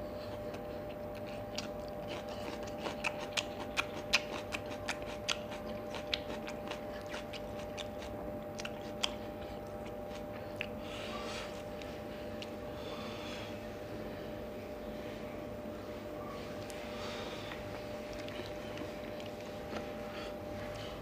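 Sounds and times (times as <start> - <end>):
chewing food with wet crunches: 0.0 - 12.7, 16.5 - 21.0
faint steady hum: 0.0 - 21.0.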